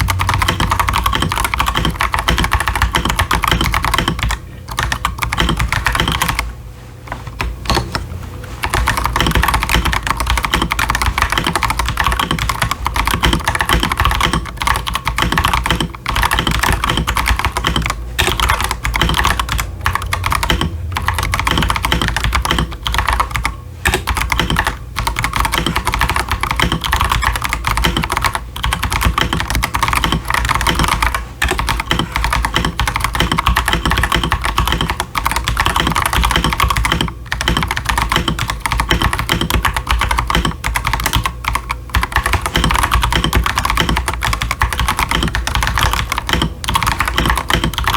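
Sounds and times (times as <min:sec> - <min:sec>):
fast mechanical keyboard typing: 0:00.0 - 0:06.5, 0:07.4 - 0:47.9.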